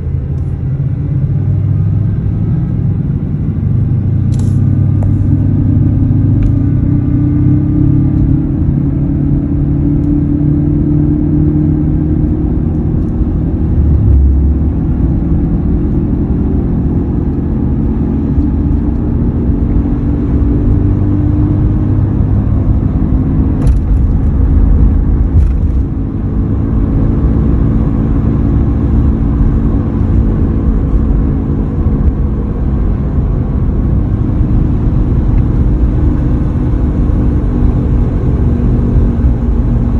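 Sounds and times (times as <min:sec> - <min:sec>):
hum varying in pitch: 0:00.0 - 0:39.9
truck low rumble: 0:00.0 - 0:39.9.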